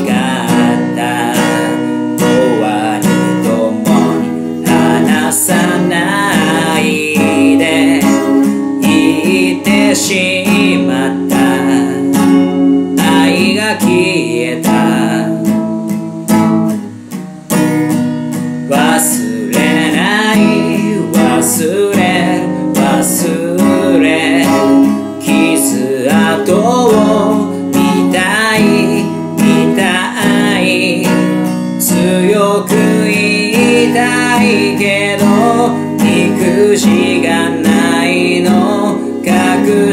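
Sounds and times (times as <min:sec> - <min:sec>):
man singing: 0:00.0 - 0:17.0, 0:18.4 - 0:39.9
acoustic guitar strumming: 0:00.0 - 0:39.9.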